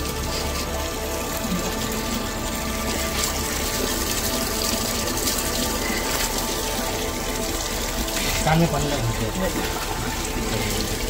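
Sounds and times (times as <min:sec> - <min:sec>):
tap water running into bucket: 0:00.0 - 0:11.0.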